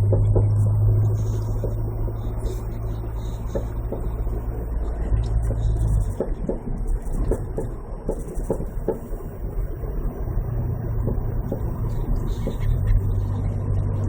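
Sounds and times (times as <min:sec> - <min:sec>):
road rumble: 0:00.0 - 0:14.0.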